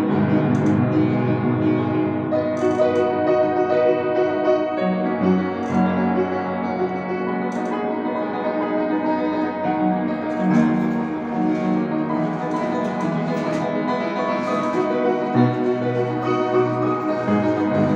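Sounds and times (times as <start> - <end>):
piano playing solo: 0.0 - 17.9.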